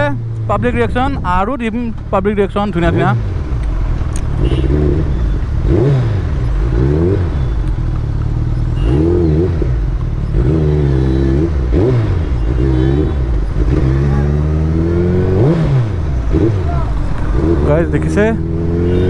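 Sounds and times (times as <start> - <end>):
motorcycle engine revving: 2.2 - 19.0.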